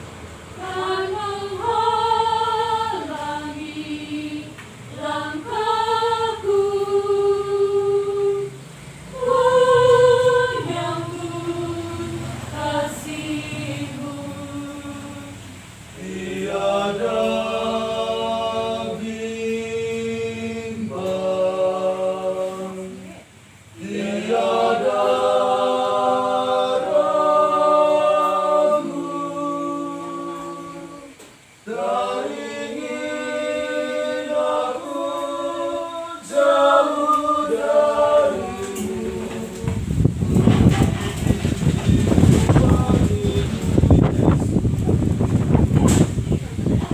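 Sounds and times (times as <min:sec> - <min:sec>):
group singing unaccompanied: 0:00.0 - 0:46.9.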